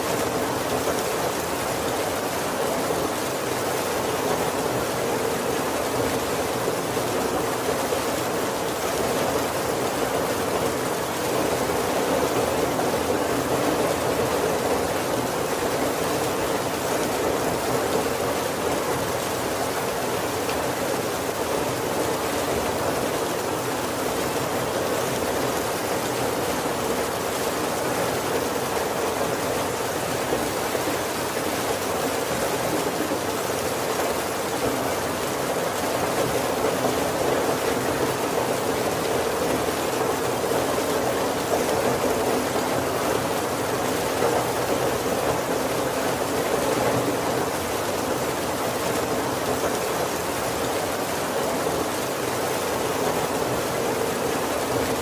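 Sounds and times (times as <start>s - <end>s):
heavy rain on roof and windows: 0.0s - 55.0s.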